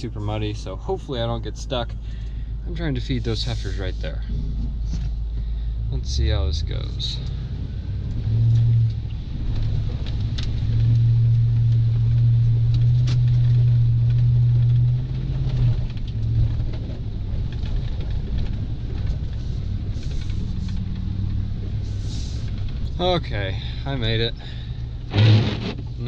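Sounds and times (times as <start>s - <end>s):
truck engine working under load: 1.1s - 26.0s.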